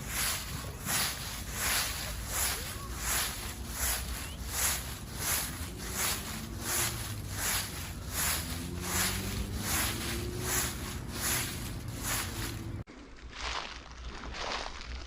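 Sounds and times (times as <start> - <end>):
footsteps in fallen leaves: 0.0 - 15.0.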